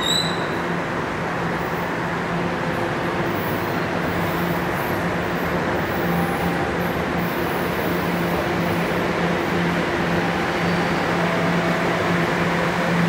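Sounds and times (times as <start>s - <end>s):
subway train running noise: 0.0s - 13.0s.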